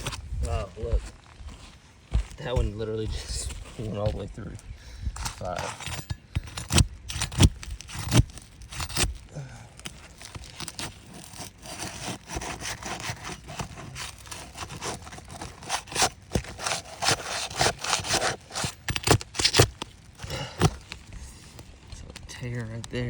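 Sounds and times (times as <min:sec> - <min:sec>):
shingles scraping and rasping: 0:00.0 - 0:23.0.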